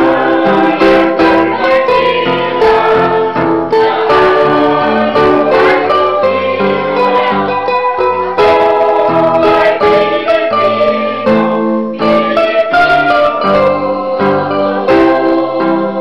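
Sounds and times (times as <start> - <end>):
choir singing: 0.0 - 16.0
electronic keyboard chords: 0.0 - 16.0.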